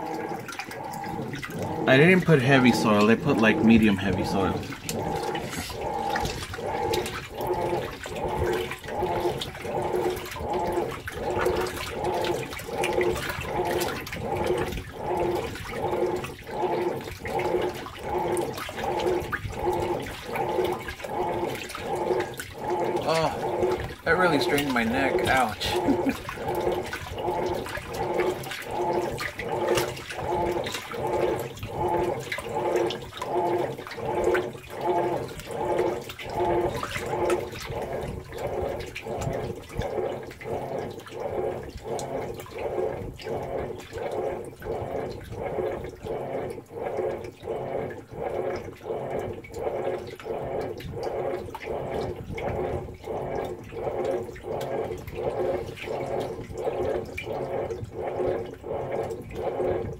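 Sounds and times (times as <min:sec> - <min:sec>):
washing machine rhythmic pulsing: 0:00.0 - 0:59.9
water sloshing in tub: 0:00.0 - 0:59.9.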